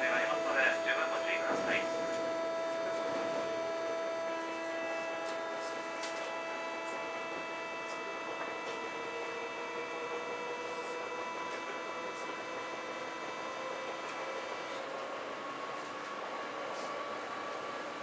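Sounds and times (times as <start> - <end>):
train motor control whining: 0.0 - 18.0.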